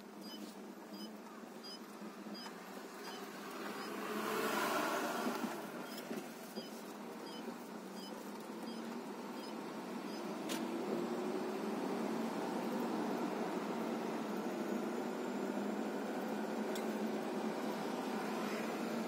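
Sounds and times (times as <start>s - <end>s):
road vehicle passing by: 1.0s - 19.0s.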